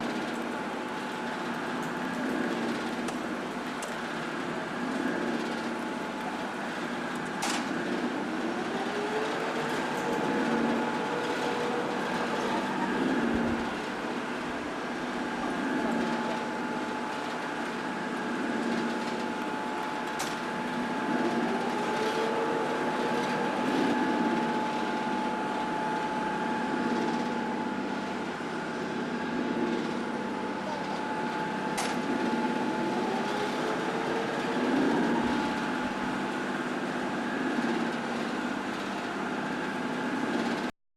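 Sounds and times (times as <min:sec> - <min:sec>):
pile boring rig machinery: 0:00.0 - 0:40.7.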